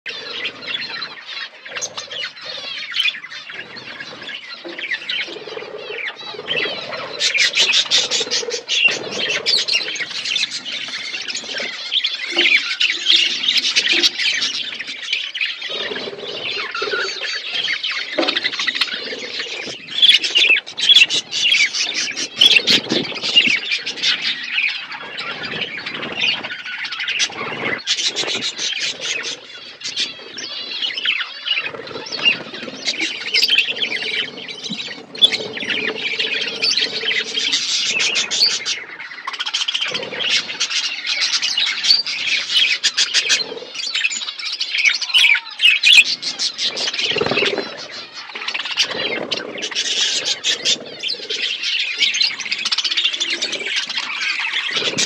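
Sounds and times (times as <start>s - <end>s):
budgerigars chirping: 0.1s - 55.0s.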